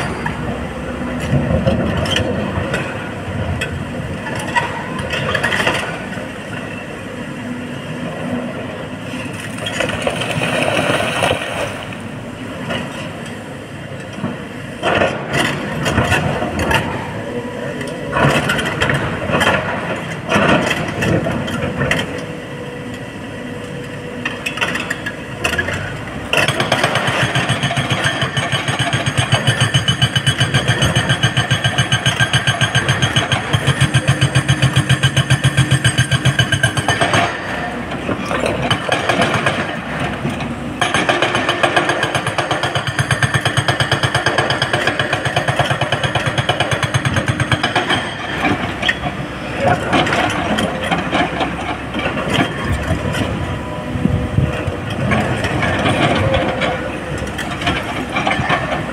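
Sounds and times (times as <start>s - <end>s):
excavator diesel engine working: 0.0s - 58.9s.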